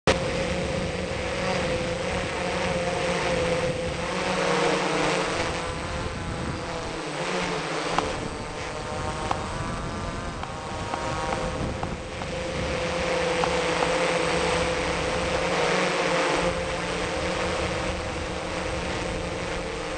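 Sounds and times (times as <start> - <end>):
drone propellers buzzing: 0.1 - 19.9.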